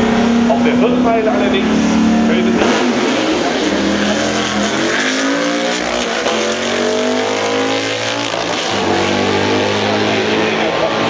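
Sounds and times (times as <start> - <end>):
race cars accelerating hard: 0.0 - 11.0.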